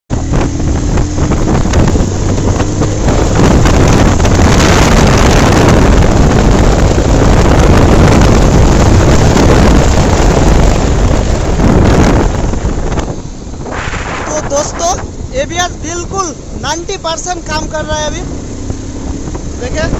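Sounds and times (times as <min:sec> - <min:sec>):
motorcycle engine: 0:00.1 - 0:19.9
wind noise on microphone: 0:00.1 - 0:19.9.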